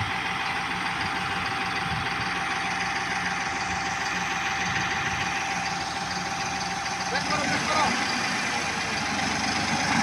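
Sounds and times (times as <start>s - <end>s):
tractor diesel engine chugging: 0.0s - 10.0s.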